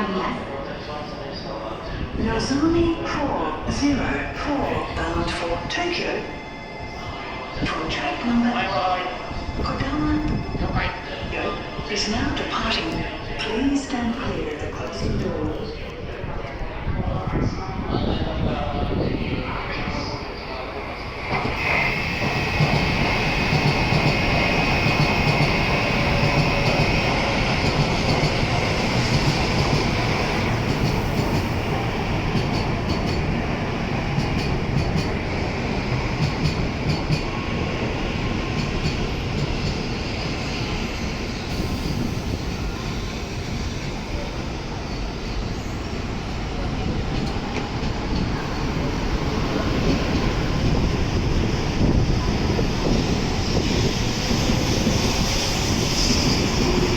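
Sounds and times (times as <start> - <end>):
train running noise: 2.1 - 56.9.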